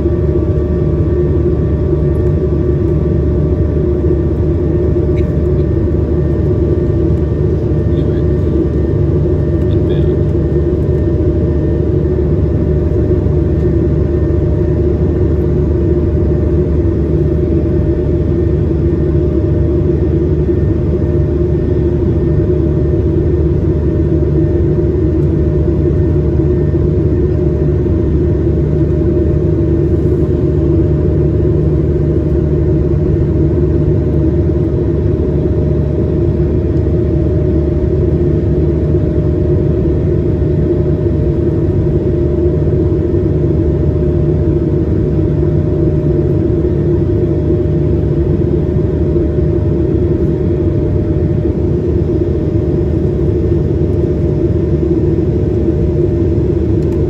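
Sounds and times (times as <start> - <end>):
jet engine drone: 0.0 - 57.0.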